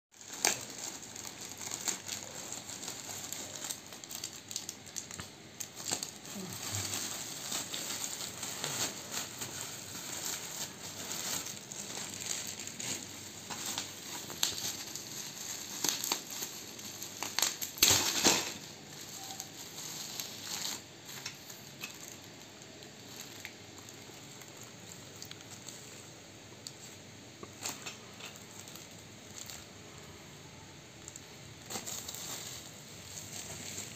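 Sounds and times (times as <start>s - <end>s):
plastic and bubble wrap crinkling: 0.1s - 33.9s.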